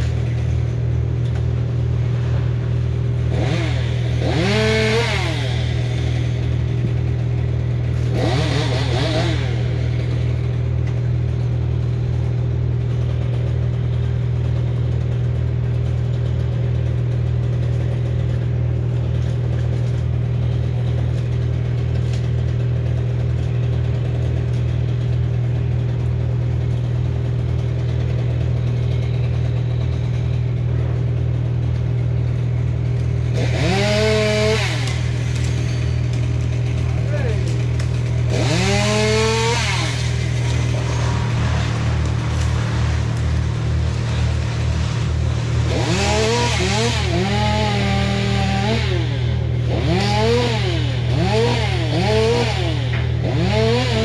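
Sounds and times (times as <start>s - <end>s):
chainsaw revving: 0.0s - 54.0s
engine idling: 0.0s - 54.0s.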